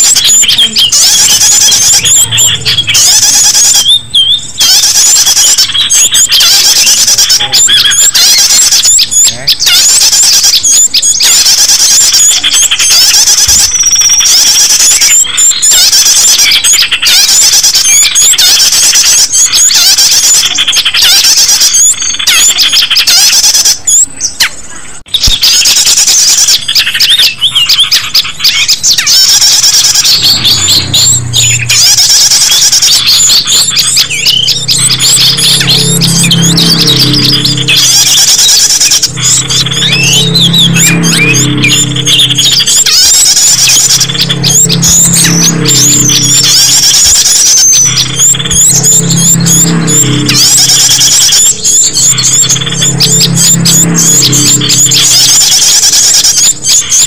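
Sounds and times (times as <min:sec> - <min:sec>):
songbirds chirping and twittering: 0:00.0 - 0:57.0.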